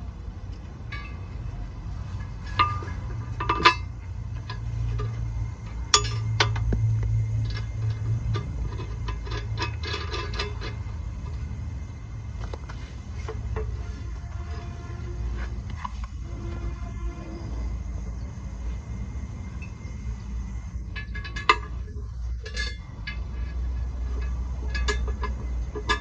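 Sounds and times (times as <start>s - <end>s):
low hum: 0.0s - 26.0s
metal tools clinking and clanking: 0.5s - 26.0s.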